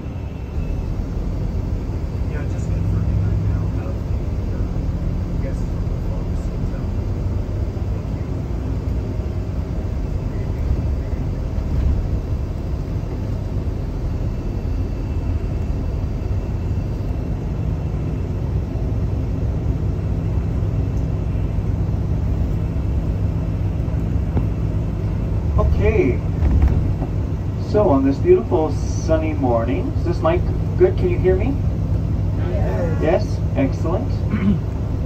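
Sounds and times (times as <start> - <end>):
coach engine and road rumble: 0.0 - 35.0
constant hum: 0.0 - 35.0.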